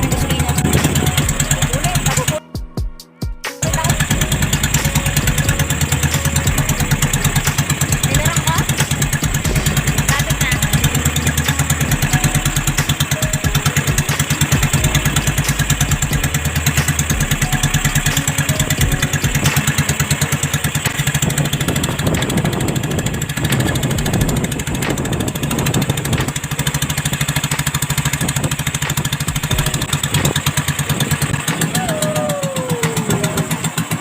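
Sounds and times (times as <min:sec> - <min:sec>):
small engine chugging: 0:00.0 - 0:02.4, 0:03.6 - 0:34.0.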